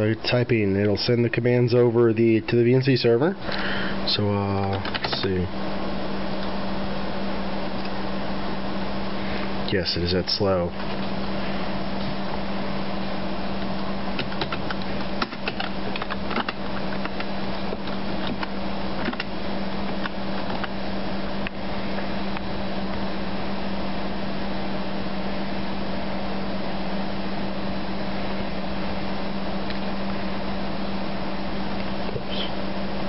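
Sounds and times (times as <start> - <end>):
computer fans humming: 0.0 - 33.0.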